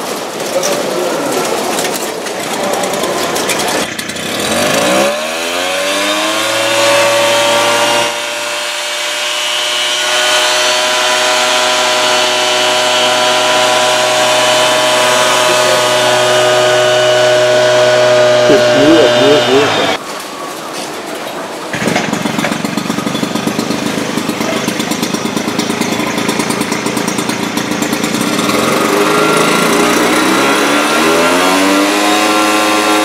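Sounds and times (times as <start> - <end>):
mist blower engine revving: 2.4 - 20.0, 21.7 - 33.0.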